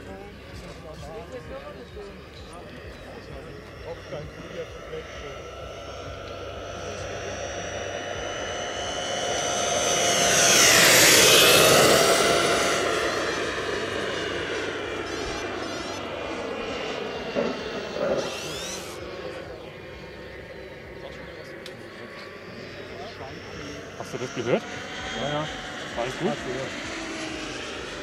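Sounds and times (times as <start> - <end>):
turboprop engine whining: 0.0 - 28.0.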